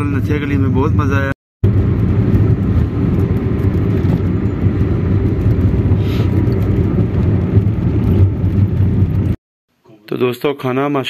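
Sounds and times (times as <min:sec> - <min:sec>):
car road and engine rumble: 0:00.0 - 0:09.4.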